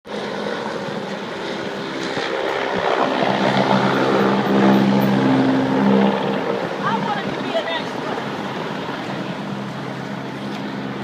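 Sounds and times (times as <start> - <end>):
helicopter droning hum: 0.1 - 11.0.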